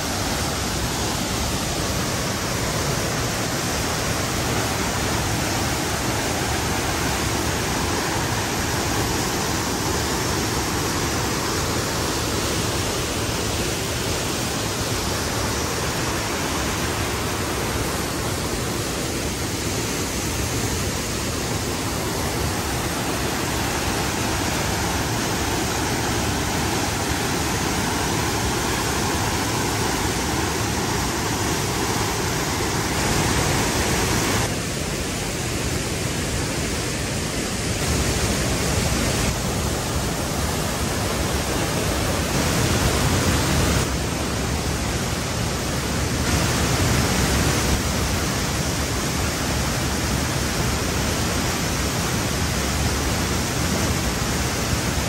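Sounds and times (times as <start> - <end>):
fast stream flowing: 0.0 - 55.0
waterfall rushing: 0.0 - 55.0.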